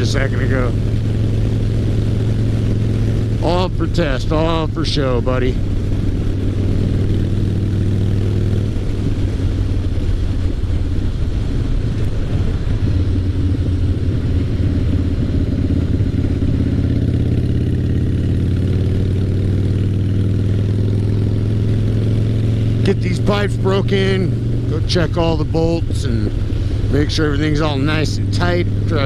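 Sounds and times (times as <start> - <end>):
motorcycle engine while riding: 0.0 - 29.0.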